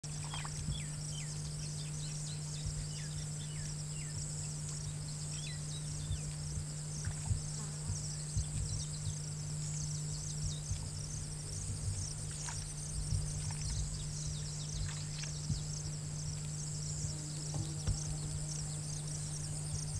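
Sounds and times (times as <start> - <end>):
low hum: 0.0 - 19.9
high-pitched insect drone: 0.1 - 19.9.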